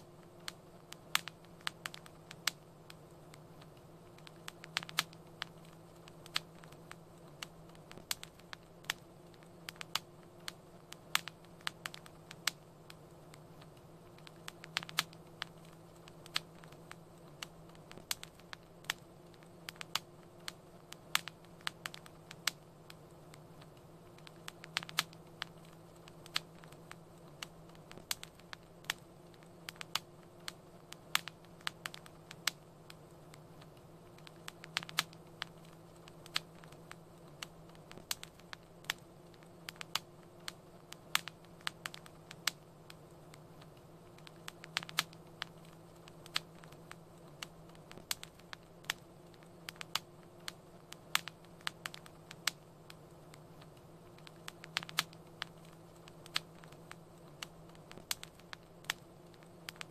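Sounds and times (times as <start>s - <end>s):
soft steady hiss: 0.0s - 59.9s
wood fire crackling: 0.0s - 59.9s.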